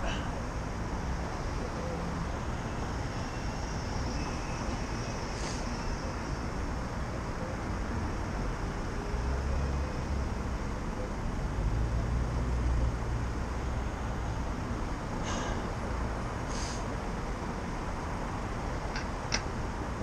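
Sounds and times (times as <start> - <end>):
low traffic rumble: 0.0 - 20.0
rushing noise while cycling: 0.0 - 20.0.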